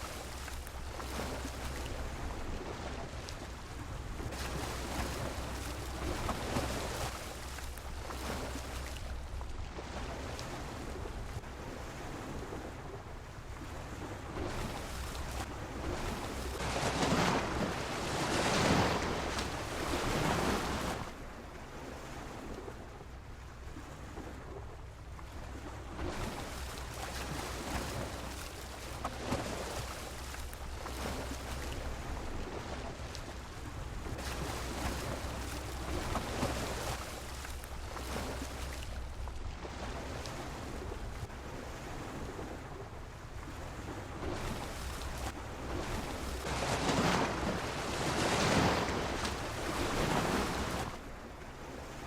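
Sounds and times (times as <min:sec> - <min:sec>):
sea waves washing against pier: 0:00.0 - 0:52.0
wind rumble on microphone: 0:00.0 - 0:52.0.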